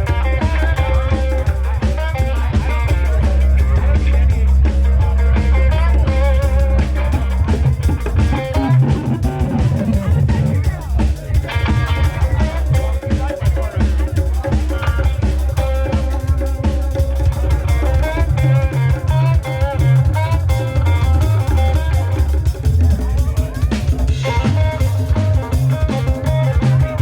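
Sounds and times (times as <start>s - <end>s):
bass guitar: 0.0s - 27.0s
drum kit: 0.0s - 27.0s
electric guitar: 0.0s - 27.0s.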